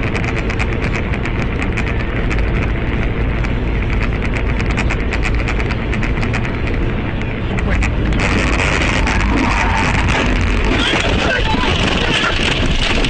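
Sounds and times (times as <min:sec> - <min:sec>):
car engine and road rumble: 0:00.0 - 0:13.0
rapid irregular ticking rattle: 0:00.0 - 0:13.0.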